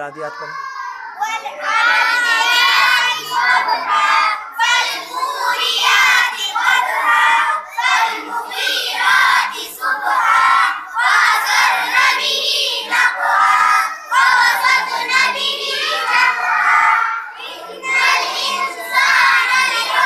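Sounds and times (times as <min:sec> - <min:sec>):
children chanting in unison: 0:00.0 - 0:20.0.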